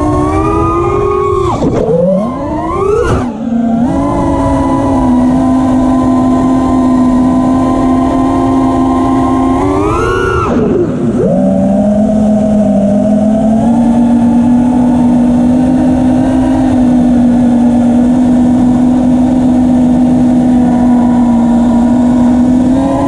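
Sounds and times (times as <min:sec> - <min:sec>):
drone motors buzzing whine: 0:00.0 - 0:23.0.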